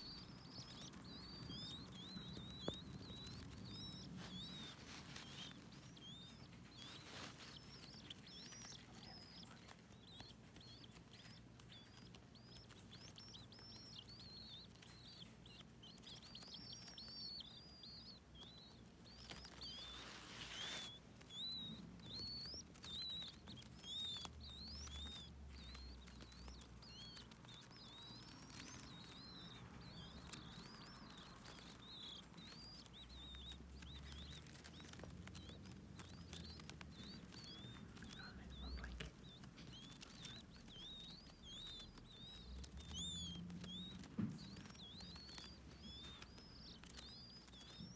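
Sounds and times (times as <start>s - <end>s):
baby birds peeping: 0.0s - 47.9s
soft rustle: 0.0s - 47.9s.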